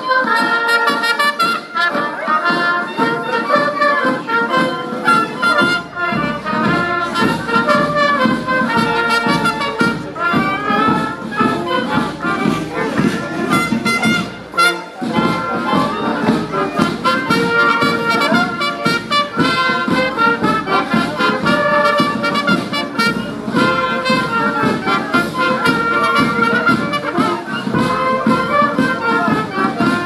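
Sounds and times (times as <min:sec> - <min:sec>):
clarinets and flutes: 0:00.0 - 0:30.0
snare and bass drums: 0:00.0 - 0:30.0
trumpets and tuba: 0:00.0 - 0:30.0.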